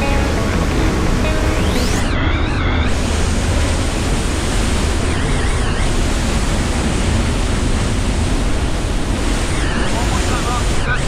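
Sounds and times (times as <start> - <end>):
rushing whitewater roar: 0.0 - 11.0.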